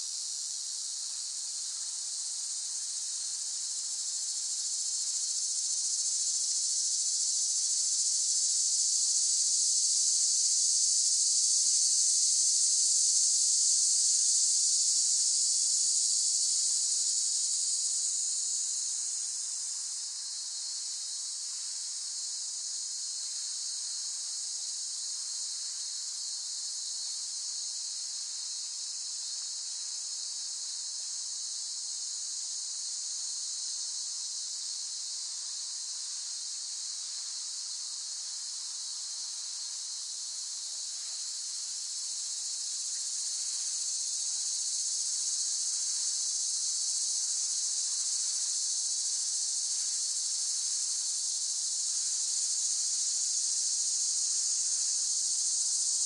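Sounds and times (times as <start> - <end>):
cicadas buzzing: 0.1 - 56.0.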